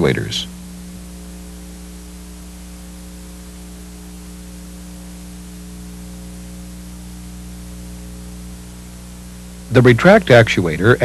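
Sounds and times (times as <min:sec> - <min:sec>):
electrical hum: 0:00.0 - 0:11.0
recording hiss: 0:00.0 - 0:11.0.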